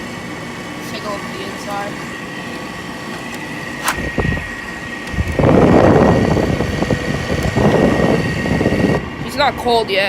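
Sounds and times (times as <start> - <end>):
air conditioner whining: 0.0 - 10.0.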